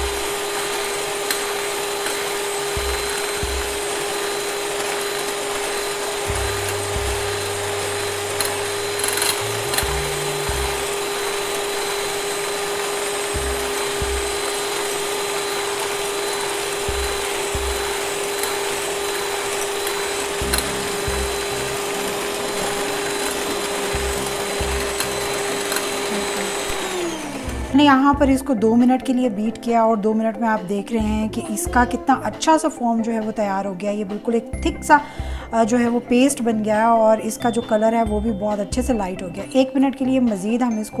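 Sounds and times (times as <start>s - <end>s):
electric hand mixer whipping: 0.0s - 41.0s.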